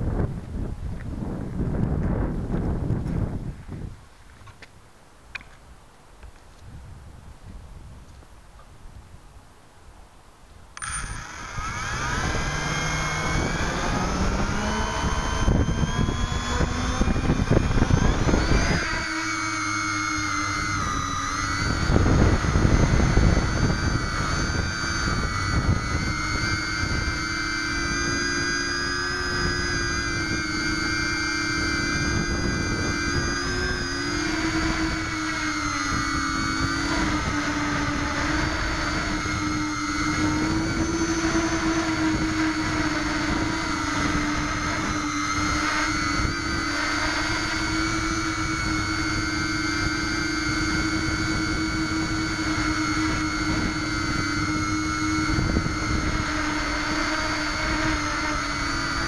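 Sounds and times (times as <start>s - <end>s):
quadcopter motors whining: 0.0s - 6.8s, 10.6s - 59.0s
low rumble of lift-off: 10.8s - 59.0s.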